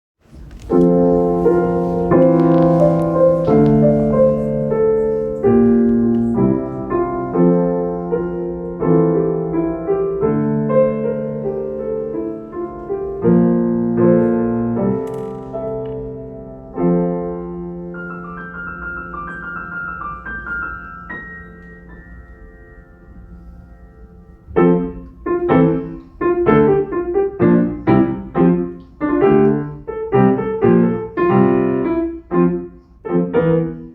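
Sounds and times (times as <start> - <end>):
solo piano playing: 0.3 - 33.9.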